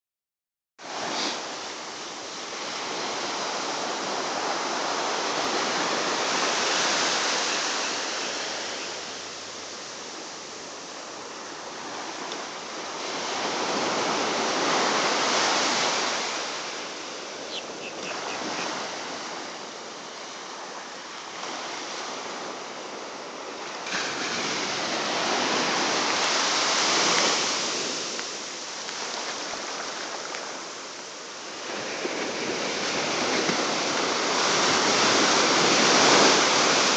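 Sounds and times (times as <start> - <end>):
ocean surf breaking on beach: 0.8 - 36.9.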